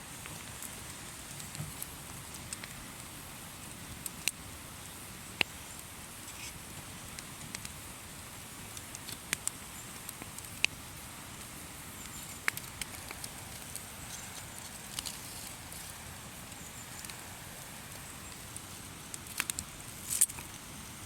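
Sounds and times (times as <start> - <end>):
campfire low hiss: 0.0 - 21.0
campfire crackling and popping: 0.1 - 21.0.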